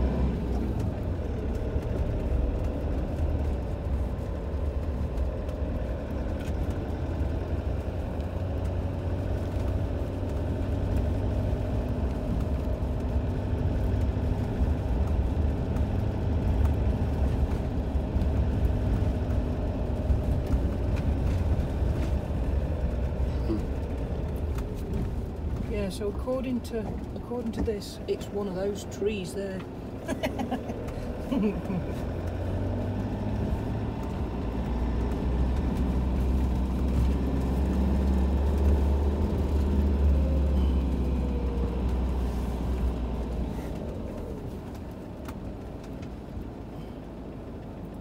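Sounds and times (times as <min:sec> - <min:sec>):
faint engine hum: 0:00.0 - 0:48.0
vehicle rumbling on gravel track: 0:00.0 - 0:48.0.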